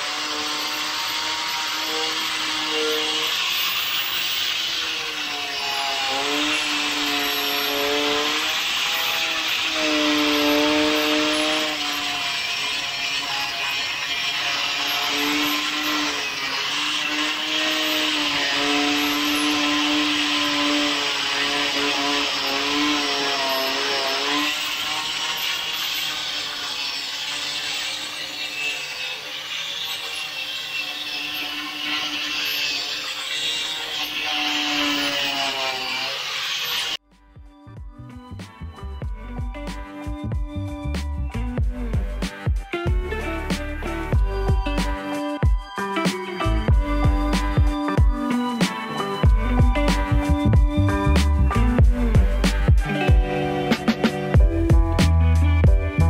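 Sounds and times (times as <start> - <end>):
angle grinder grinding metal: 0.0 - 56.0.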